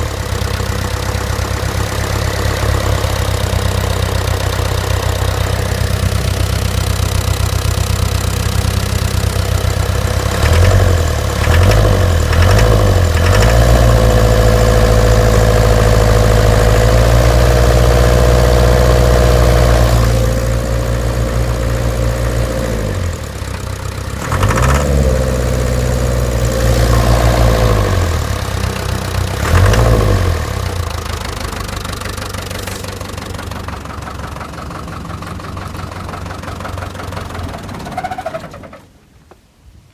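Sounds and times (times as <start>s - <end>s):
diesel engine knocking and revving: 0.0s - 38.3s.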